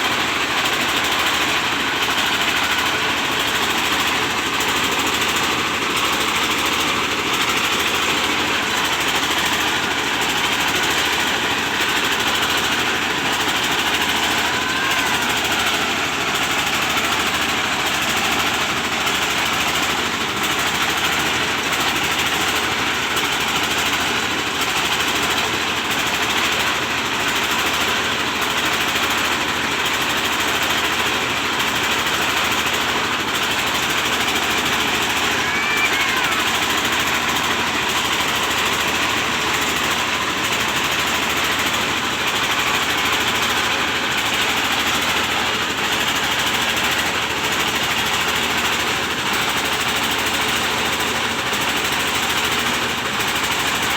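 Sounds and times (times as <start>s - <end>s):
diesel engine: 0.0s - 53.9s
rice milling machine running: 0.0s - 53.9s.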